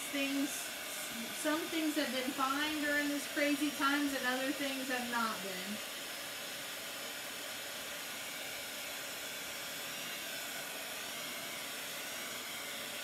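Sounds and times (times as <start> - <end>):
heat gun blowing hot air: 0.0 - 13.0.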